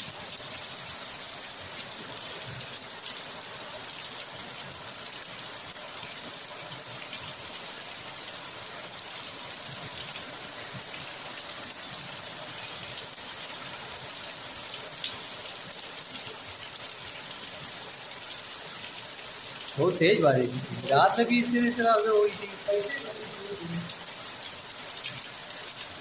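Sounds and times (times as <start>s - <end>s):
heavy rain on leaves: 0.0s - 26.0s.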